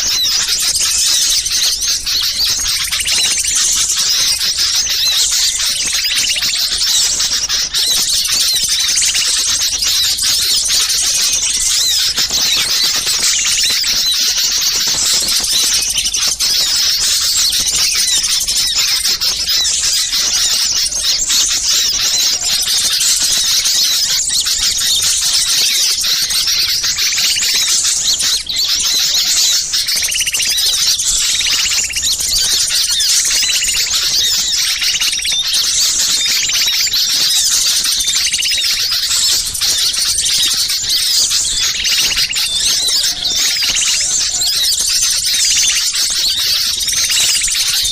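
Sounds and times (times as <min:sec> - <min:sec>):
small songbirds chattering: 0:00.0 - 0:47.9.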